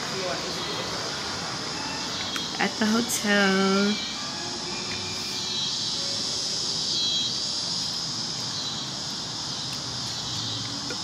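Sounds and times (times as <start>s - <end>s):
low traffic rumble: 0.0s - 11.0s
insects hissing: 0.1s - 11.0s.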